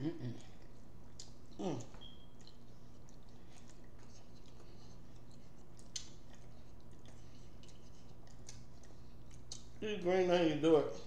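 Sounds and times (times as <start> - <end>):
steady low hum: 0.0 - 11.0
person chewing: 0.1 - 10.1.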